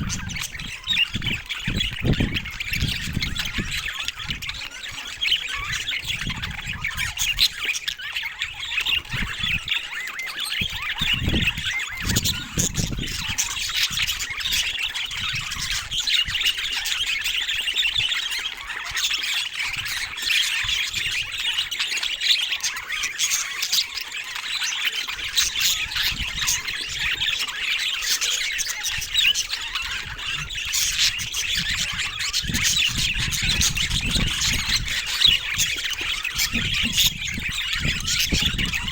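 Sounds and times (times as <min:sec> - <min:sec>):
budgies chattering and squawking: 0:00.0 - 0:38.9.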